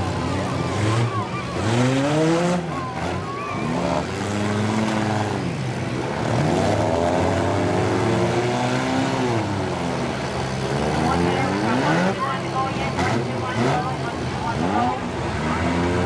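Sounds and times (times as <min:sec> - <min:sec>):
car engines revving hard: 0:00.0 - 0:16.0.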